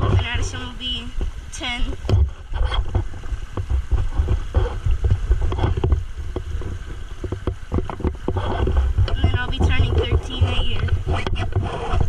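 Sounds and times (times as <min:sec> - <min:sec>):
river water splashing: 0:00.0 - 0:12.0
wind rumble on microphone: 0:00.0 - 0:12.0
small knocks: 0:02.0 - 0:11.8.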